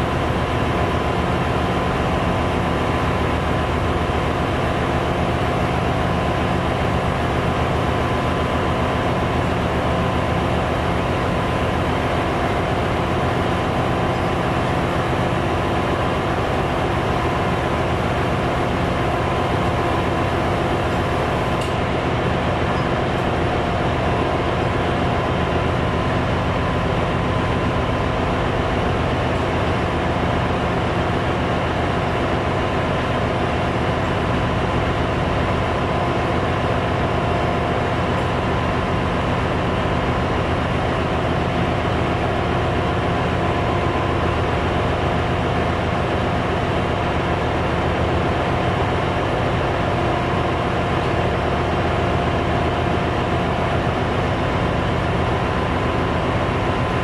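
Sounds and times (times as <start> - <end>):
engine room machinery drone: 0.0 - 57.0.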